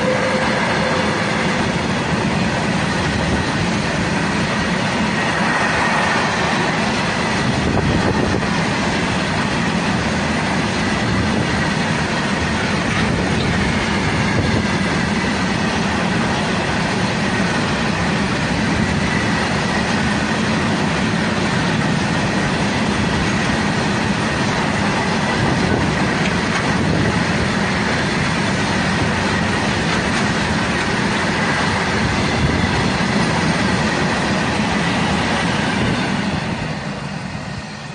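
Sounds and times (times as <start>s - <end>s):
steel wheels rolling on rails: 0.0s - 37.9s.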